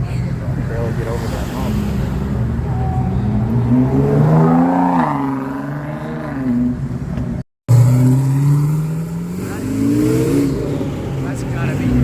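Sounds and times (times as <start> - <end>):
car engine revving: 0.4 - 7.0, 7.7 - 12.0.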